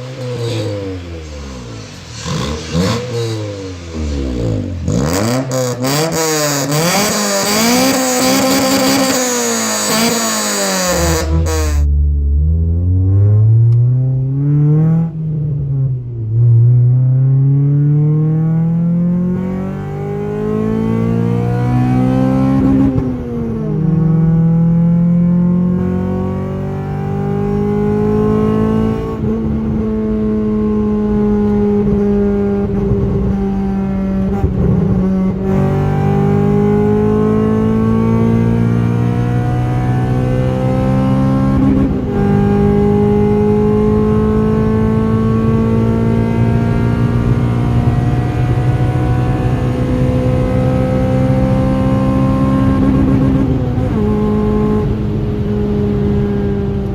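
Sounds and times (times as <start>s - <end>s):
car engine revving while driving: 0.0s - 56.9s.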